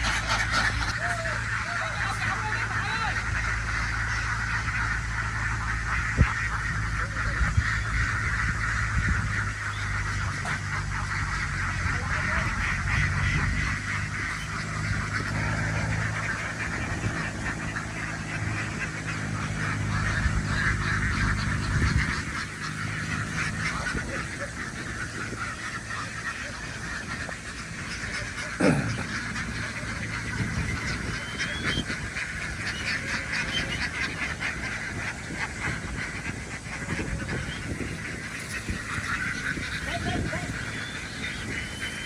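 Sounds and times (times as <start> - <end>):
ducks quacking: 0.0 - 42.0
low steady hum: 0.0 - 42.0.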